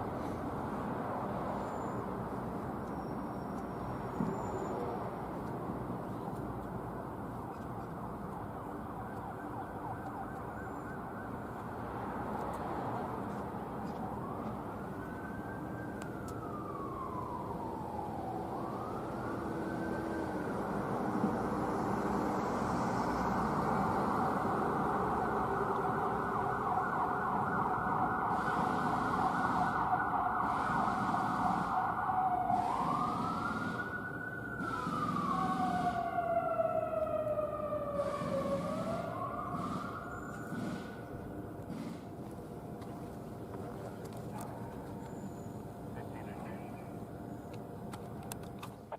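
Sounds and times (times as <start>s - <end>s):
rising and falling warning siren: 6.8s - 47.4s.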